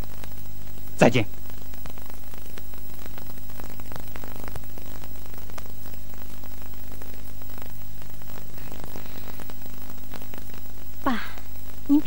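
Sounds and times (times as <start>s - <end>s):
electrical hum and hiss: 0.0s - 12.0s
faint crackles: 0.0s - 12.0s.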